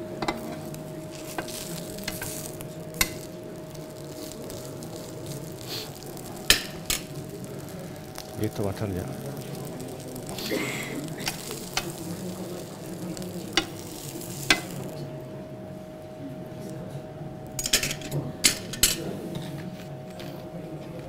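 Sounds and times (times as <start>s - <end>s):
burger patty sizzling on grill: 0.0s - 19.4s.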